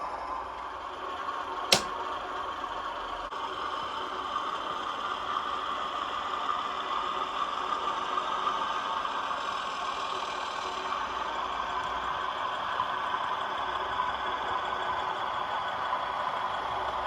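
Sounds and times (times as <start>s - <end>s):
model train diesel engine sound: 3.0s - 17.0s.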